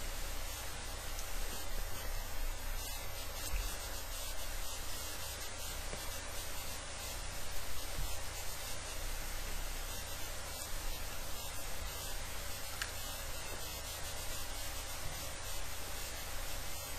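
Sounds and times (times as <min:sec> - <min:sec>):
steady hiss and static: 0:00.0 - 0:16.9.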